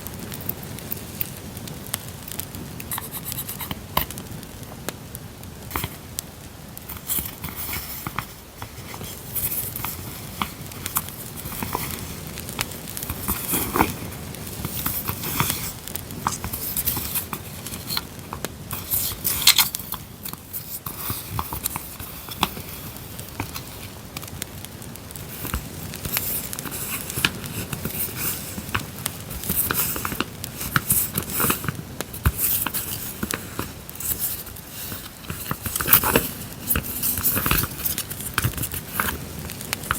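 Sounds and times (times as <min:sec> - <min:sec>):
campfire crackling: 0:00.0 - 0:39.9
paper rustling and crinkling: 0:05.7 - 0:06.1, 0:06.8 - 0:39.9.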